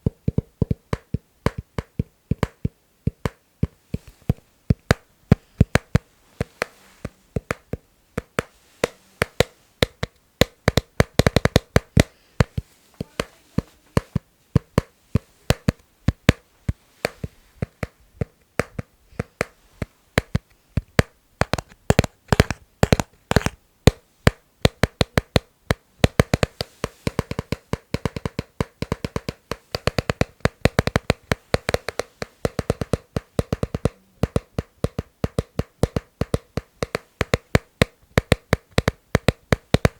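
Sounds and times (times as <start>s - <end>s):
tapping on a hard object: 0.0s - 6.8s, 7.4s - 39.9s.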